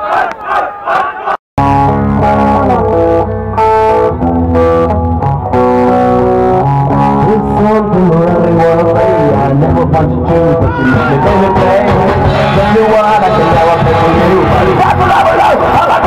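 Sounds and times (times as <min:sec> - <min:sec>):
bass guitar line: 0:01.6 - 0:16.0
distorted electric guitar: 0:01.6 - 0:16.0.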